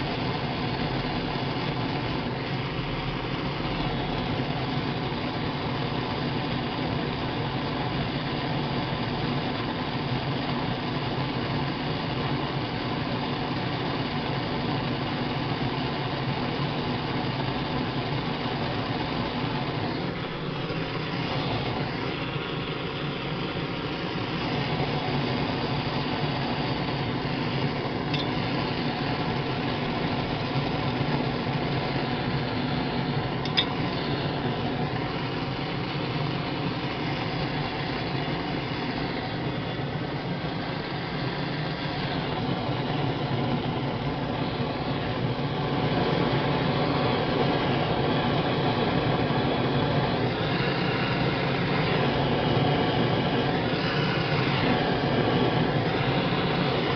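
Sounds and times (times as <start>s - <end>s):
propane torch hissing: 0.0s - 56.9s.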